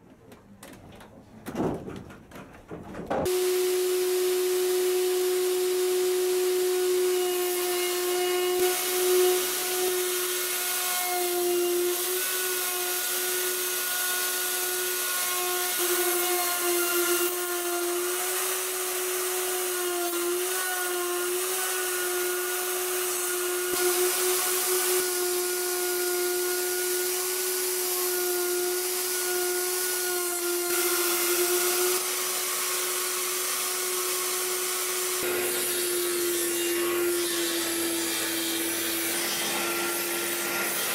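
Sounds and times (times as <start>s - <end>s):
circular saw cutting wood: 3.2s - 40.9s.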